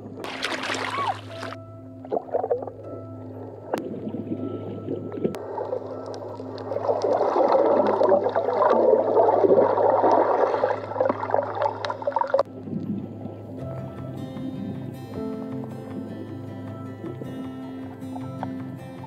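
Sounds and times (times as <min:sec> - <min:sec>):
underwater bubbling and rushing water: 0:00.0 - 0:19.0
steady low hum: 0:01.3 - 0:18.9.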